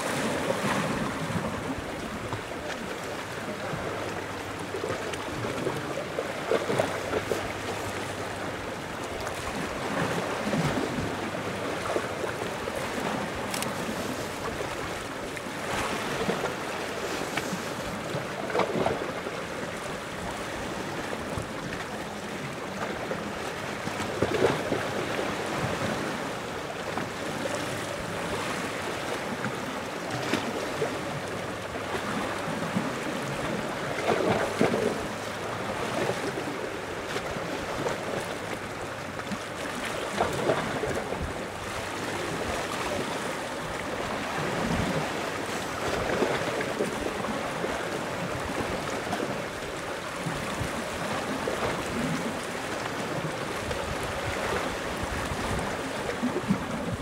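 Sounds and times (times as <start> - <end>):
ocean waves washing ashore: 0.0 - 57.0.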